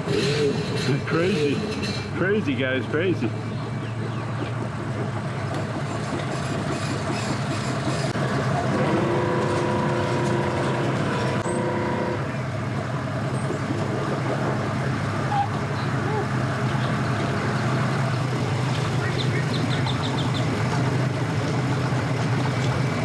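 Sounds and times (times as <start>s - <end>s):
engines idling: 0.0s - 23.0s
higher engine note: 0.0s - 23.0s.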